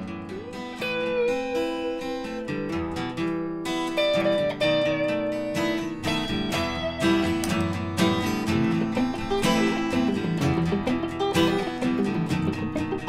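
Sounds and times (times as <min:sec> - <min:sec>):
acoustic guitar: 0:00.0 - 0:13.0
electric guitar: 0:00.0 - 0:13.0.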